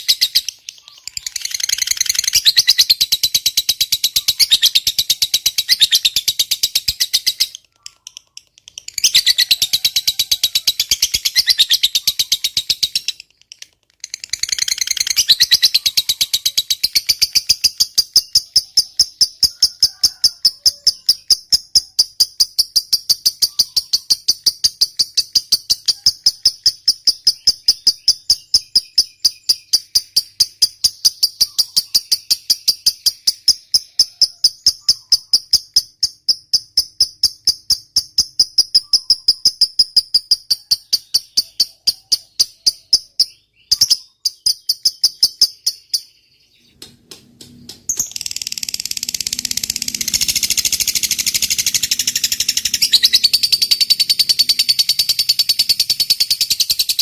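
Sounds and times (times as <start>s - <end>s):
bird chattering trill: 0.0s - 46.8s, 47.8s - 57.0s.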